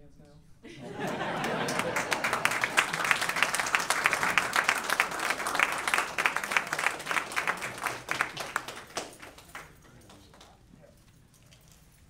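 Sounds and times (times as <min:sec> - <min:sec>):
audience applauding: 0:00.7 - 0:10.7.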